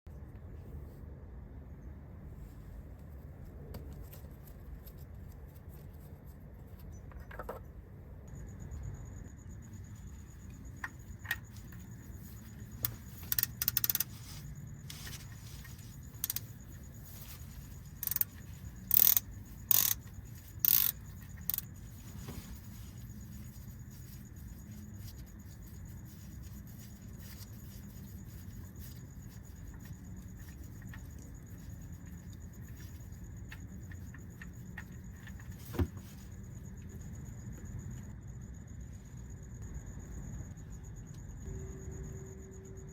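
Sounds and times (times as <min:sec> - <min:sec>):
faint high-pitched whine: 0:00.1 - 0:42.9
low steady rumble: 0:00.1 - 0:42.9.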